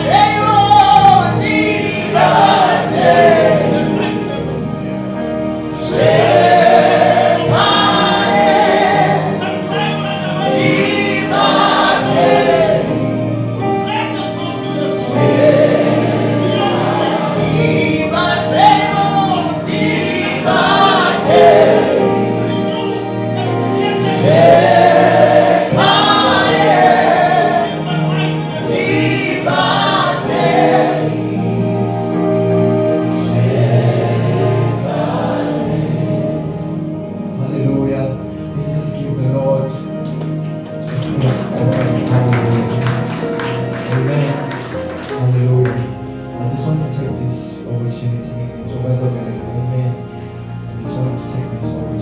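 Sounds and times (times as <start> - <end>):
choir singing worship song: 0.0 - 50.2
instrumental accompaniment: 0.0 - 52.0.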